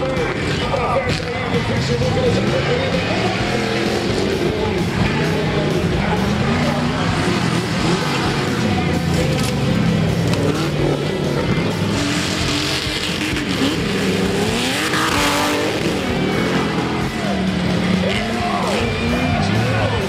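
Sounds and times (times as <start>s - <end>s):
off-road engines revving: 0.0s - 20.0s.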